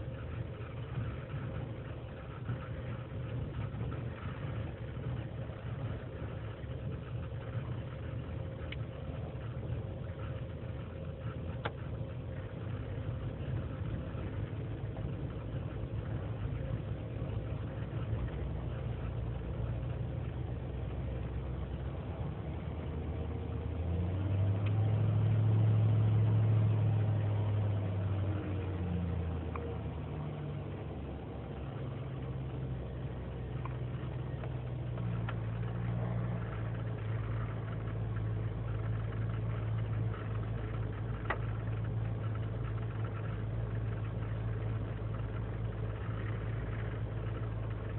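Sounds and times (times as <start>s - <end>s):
engine idling roughly: 0.0s - 47.9s.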